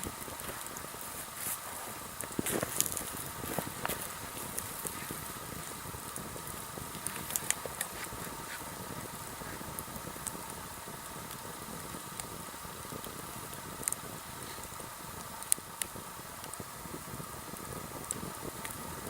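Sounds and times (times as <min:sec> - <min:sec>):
campfire flame rushing: 0:00.0 - 0:19.0
fire crackling and popping: 0:00.0 - 0:19.0.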